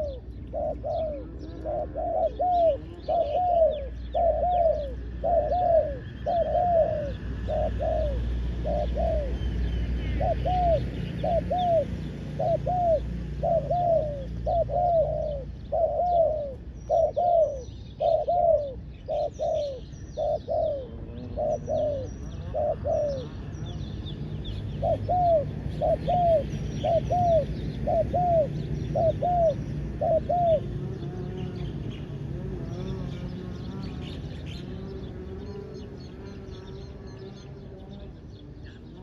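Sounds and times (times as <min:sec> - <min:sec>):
dove cooing: 0:00.0 - 0:23.7, 0:24.5 - 0:39.0
small birds chirping: 0:00.0 - 0:39.0.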